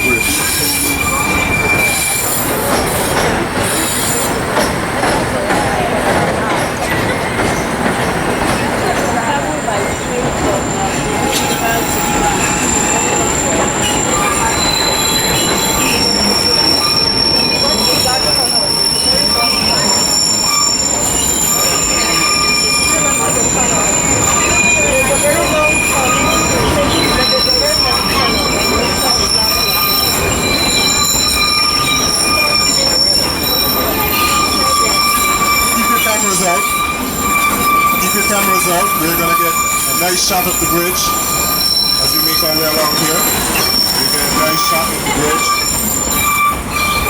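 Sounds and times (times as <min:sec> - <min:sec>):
train rumble: 0:00.0 - 0:47.0
train wheels squealing on rails: 0:00.0 - 0:47.0.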